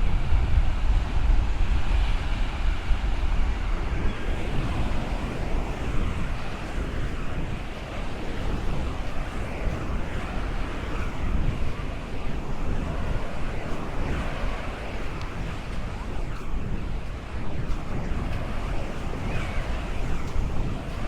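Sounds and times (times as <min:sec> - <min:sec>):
ocean waves breaking on shore: 0:00.0 - 0:21.0
wind buffeting microphone: 0:00.0 - 0:21.0.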